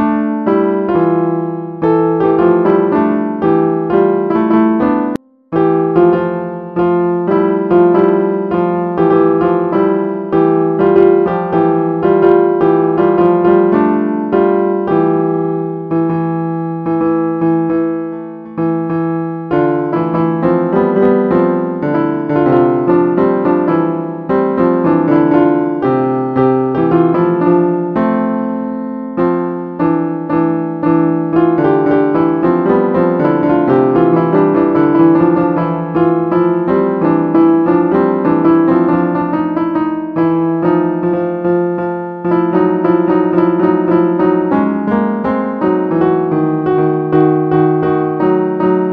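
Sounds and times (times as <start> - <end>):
sampled piano melody: 0.0 - 48.9.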